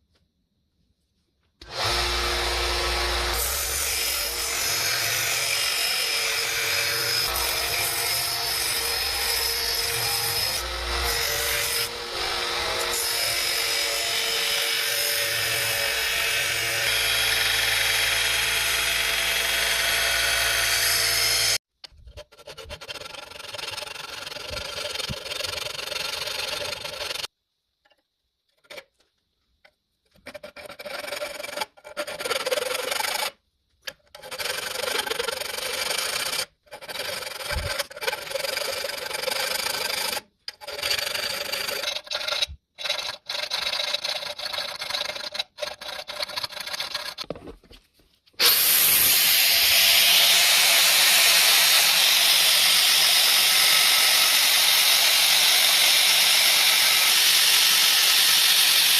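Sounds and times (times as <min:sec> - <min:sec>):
hand tool scraping: 0:01.6 - 0:27.3, 0:30.1 - 0:58.9.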